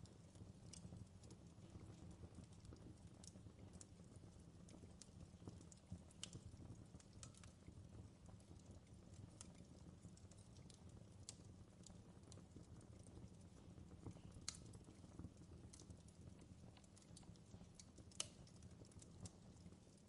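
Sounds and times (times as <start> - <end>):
campfire crackling: 0.0 - 20.0
low rumble of flames: 0.0 - 20.0.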